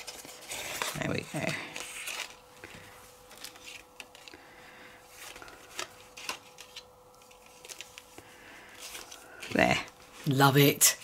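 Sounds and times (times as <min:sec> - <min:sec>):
paper and ribbon rustling: 0:00.0 - 0:04.5, 0:05.1 - 0:10.7
faint steady hum: 0:00.0 - 0:11.0.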